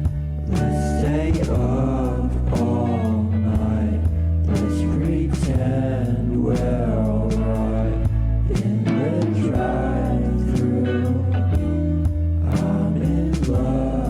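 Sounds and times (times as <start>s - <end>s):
song with singing: 0.0s - 14.0s.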